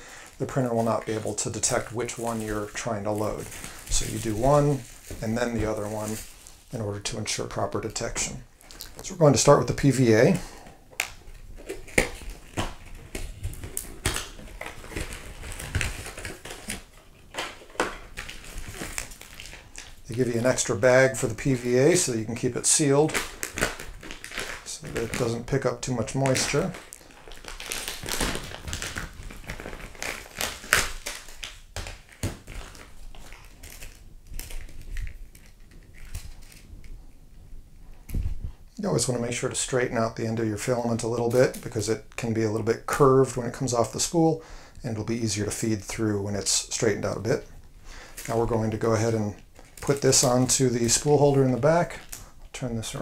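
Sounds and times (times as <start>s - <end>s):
plastic bag crinkling: 0.0s - 43.6s, 45.1s - 53.0s.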